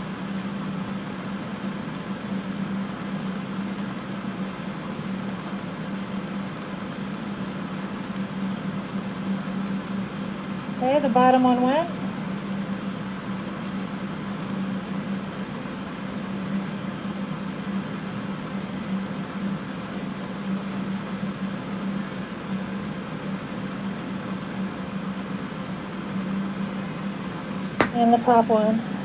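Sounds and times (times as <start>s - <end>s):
fume fans: 0.0s - 29.0s
low hum: 0.0s - 29.0s
torch flame rushing: 0.0s - 29.0s.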